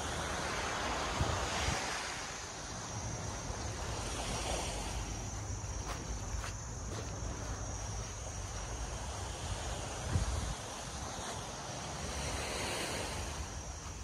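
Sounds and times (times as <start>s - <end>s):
high insect buzz: 0.0s - 14.0s
surf washing: 0.0s - 14.0s
wind rumbling on microphone: 0.0s - 14.0s.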